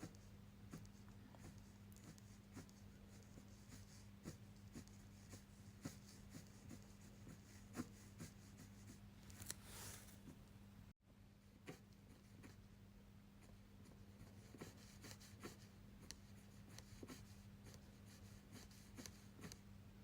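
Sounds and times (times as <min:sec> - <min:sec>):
pen scratching on paper: 0:00.0 - 0:10.2, 0:13.4 - 0:19.6.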